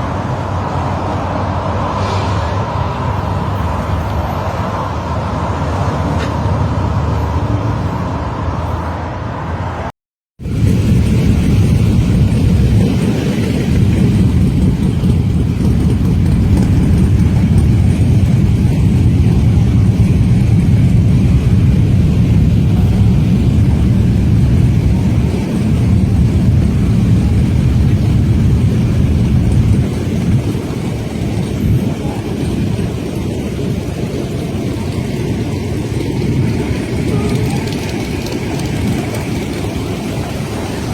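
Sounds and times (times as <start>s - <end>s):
motorcycle engines rumbling: 0.0s - 40.9s.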